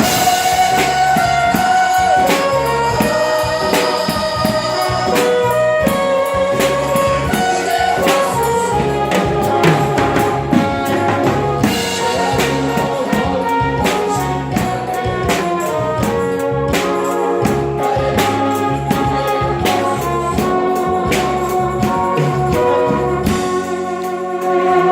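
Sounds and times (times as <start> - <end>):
brass-like melody: 0.0 - 24.9
drum kit steady beat: 0.0 - 24.9.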